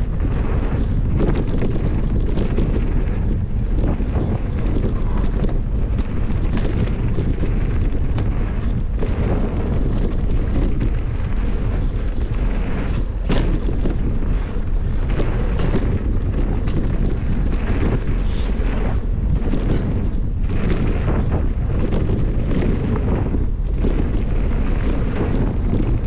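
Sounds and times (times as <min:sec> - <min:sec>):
bike knocks and rattles: 0:00.0 - 0:26.0
tyre rumble on dirt: 0:00.0 - 0:26.0
wind buffeting microphone: 0:00.0 - 0:26.0.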